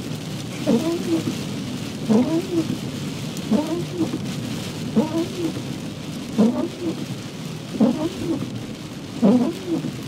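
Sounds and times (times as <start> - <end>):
heavy rain hissing: 0.0 - 10.0
wet road noise: 0.0 - 10.0
windscreen wipers thumping and squeaking: 0.1 - 10.0.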